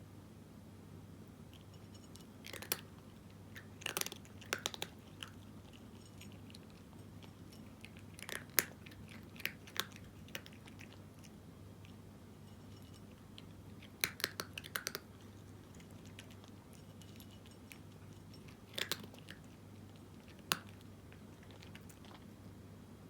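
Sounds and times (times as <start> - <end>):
cat crunching dry kibble: 1.5 - 12.0, 12.6 - 22.5.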